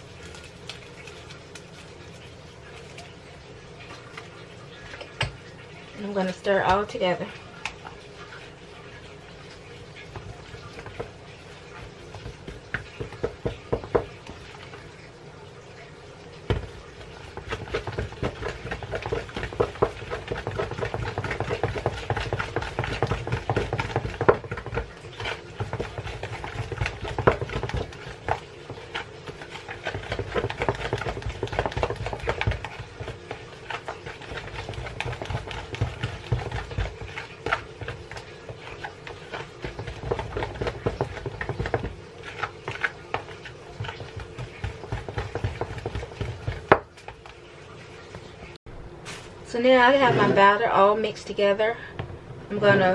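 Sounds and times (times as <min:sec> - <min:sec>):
spoon stirring batter in tub: 0:00.0 - 0:15.1, 0:16.3 - 0:48.4.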